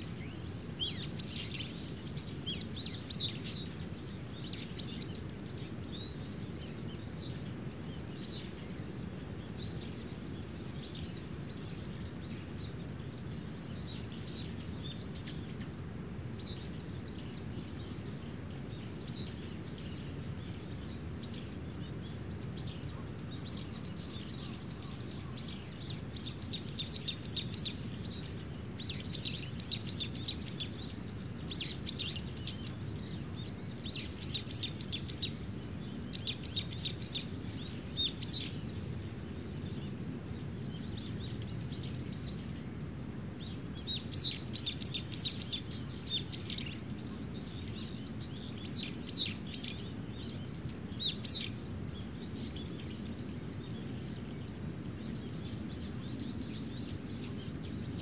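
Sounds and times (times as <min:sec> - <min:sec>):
small songbirds singing: 0:00.0 - 0:58.0.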